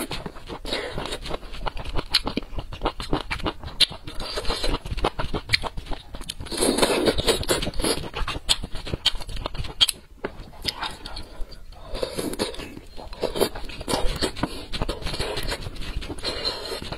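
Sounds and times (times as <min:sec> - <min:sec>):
wet chewing and mouth clicks: 0:00.0 - 0:16.9.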